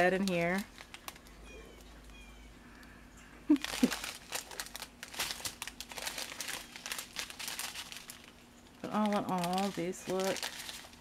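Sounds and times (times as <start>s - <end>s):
plastic bags crinkling: 0.0s - 2.2s, 3.5s - 11.0s.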